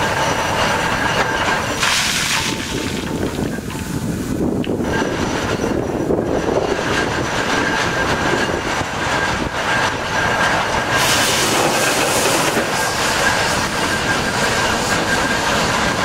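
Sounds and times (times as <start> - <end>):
engine and gearing clattering: 0.0 - 16.0
steam hissing: 0.0 - 16.0.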